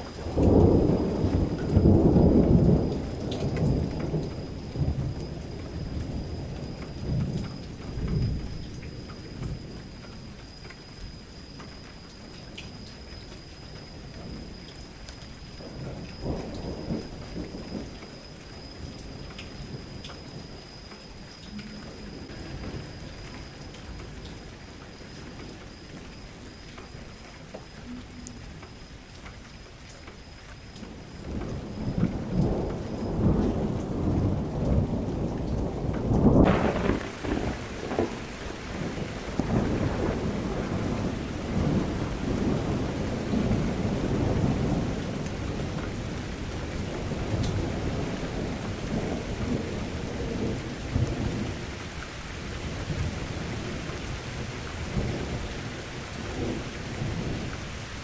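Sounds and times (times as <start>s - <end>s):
rolling thunder: 0.0s - 10.6s, 15.5s - 20.6s, 21.4s - 27.2s, 30.8s - 58.0s
steady rain hiss: 0.0s - 58.0s.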